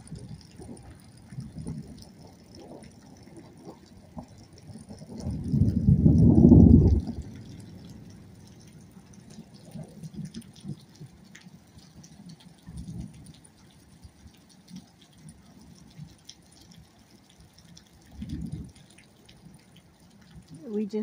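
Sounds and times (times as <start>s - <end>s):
drips and patters: 0.0s - 21.0s
rain falling: 0.0s - 21.0s.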